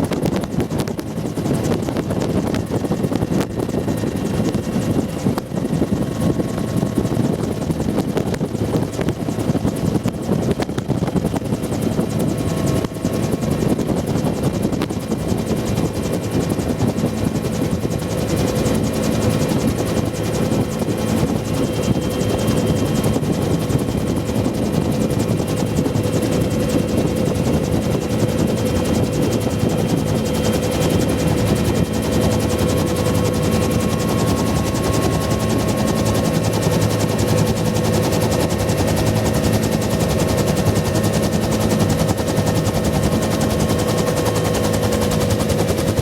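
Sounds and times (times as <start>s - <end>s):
helicopter rotor beat: 0.0s - 46.0s
turbine engine whine: 0.0s - 46.0s.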